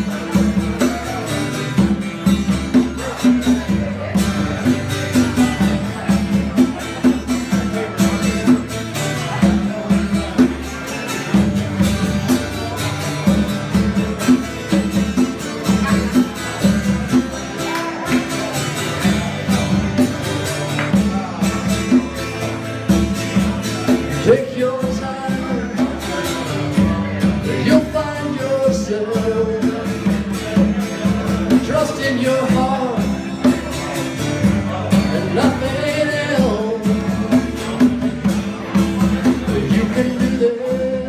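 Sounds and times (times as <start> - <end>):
congas beaten in rhythm: 0.0 - 41.0
guitar playing: 0.0 - 41.0.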